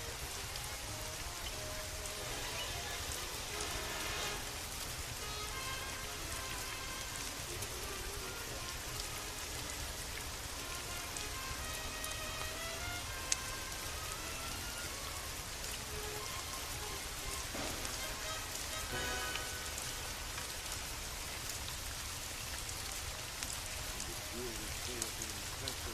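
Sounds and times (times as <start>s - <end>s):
soft music notes: 0.0s - 21.6s, 22.8s - 25.9s
steady rain falling: 0.0s - 25.9s.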